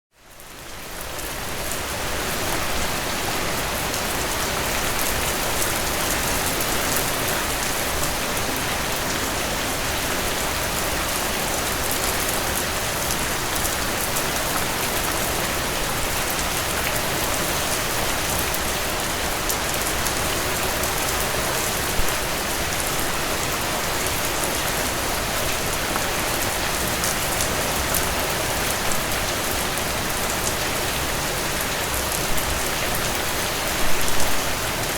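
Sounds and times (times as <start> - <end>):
heavy rain on a tin roof: 0.1 - 34.9.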